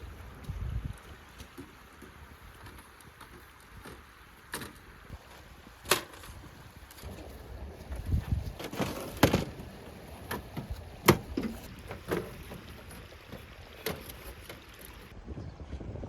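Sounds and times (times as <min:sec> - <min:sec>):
wind rumble on microphone: 0:00.0 - 0:04.0, 0:05.0 - 0:16.0.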